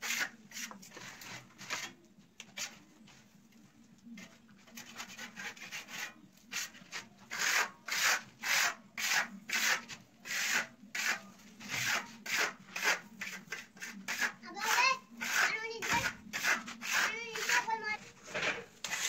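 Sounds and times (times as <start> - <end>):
spatula scraping plaster: 0.0 - 2.9, 4.1 - 19.0.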